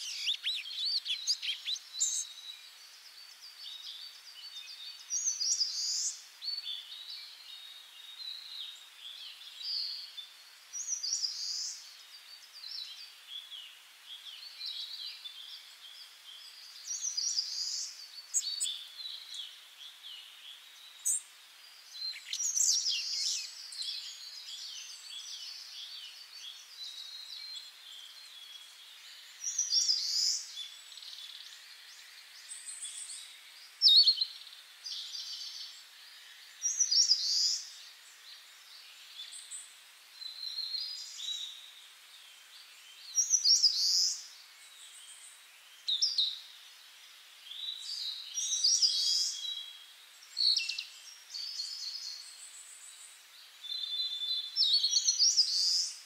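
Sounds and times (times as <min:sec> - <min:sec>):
faint hiss: 0:00.0 - 0:56.0
songbirds chirping: 0:00.0 - 0:56.0.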